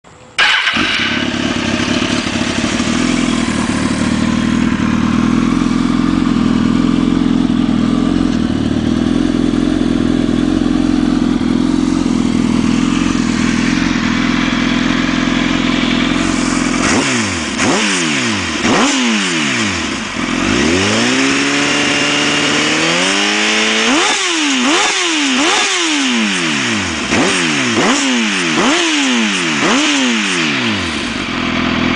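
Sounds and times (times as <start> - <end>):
motorcycle engine idling: 0.2 - 31.9
motorcycle engine revving: 0.4 - 31.9.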